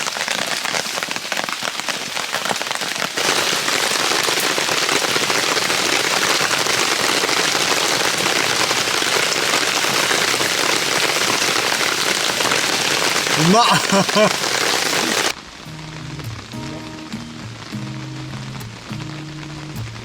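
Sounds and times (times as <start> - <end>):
rain pattering on tarp: 0.0 - 20.0.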